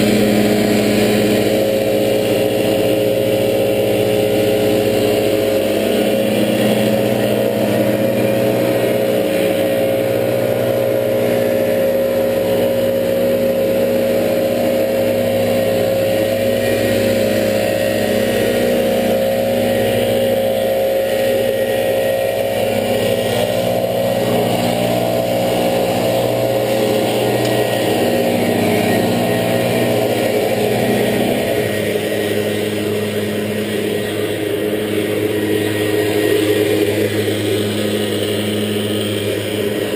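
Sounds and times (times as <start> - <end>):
leaf blowers running: 0.0 - 39.9.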